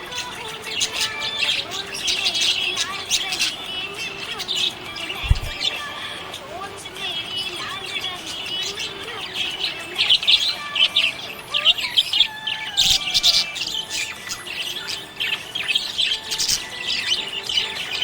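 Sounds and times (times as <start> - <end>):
budgie chirping and warbling: 0.0 - 18.0.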